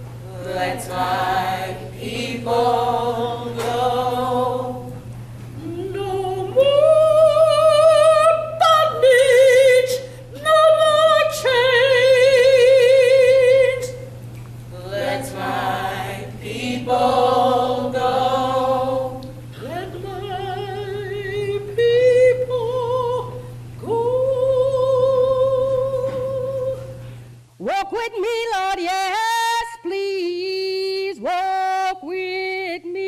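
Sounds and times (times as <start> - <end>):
steady low hum: 0.0 - 33.0
person singing a cappella: 0.2 - 5.0, 5.6 - 14.0, 14.7 - 27.0, 27.6 - 33.0.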